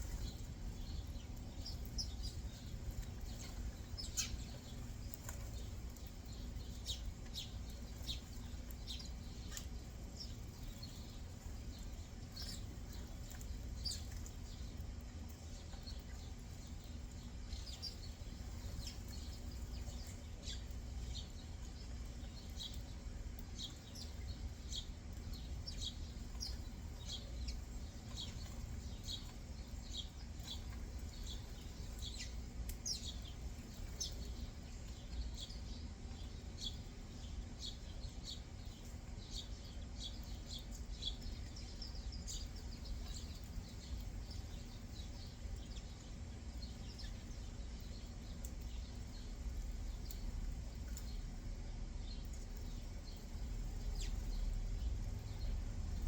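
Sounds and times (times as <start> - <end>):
low steady rumble: 0.0 - 56.0
small birds chirping: 0.0 - 56.0.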